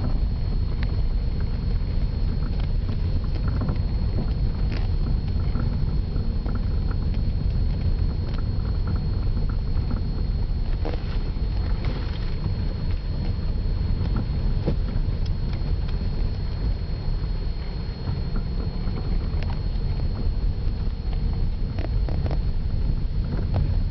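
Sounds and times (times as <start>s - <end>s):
car road rumble: 0.0s - 23.9s.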